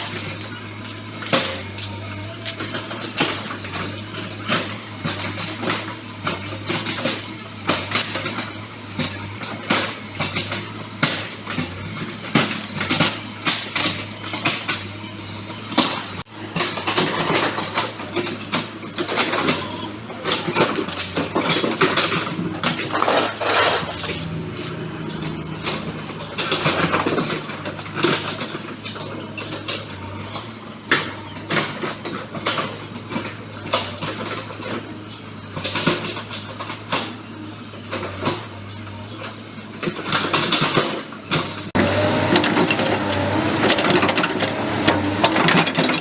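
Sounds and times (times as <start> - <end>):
metallic clanking and rattling: 0.0 - 41.8
excavator engine running: 0.0 - 46.0.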